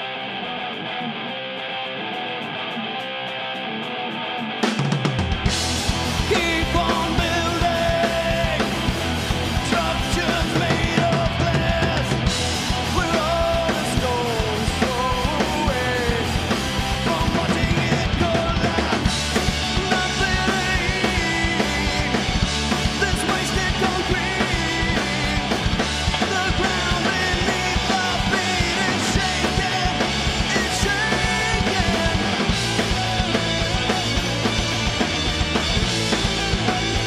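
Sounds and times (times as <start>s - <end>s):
electric guitar: 0.0s - 37.0s
punk rock band playing live: 0.0s - 37.0s.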